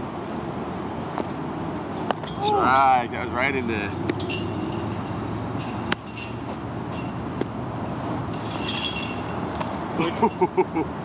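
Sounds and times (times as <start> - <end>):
outdoor background hiss: 0.0 - 11.0
light metallic jingling: 1.9 - 10.8.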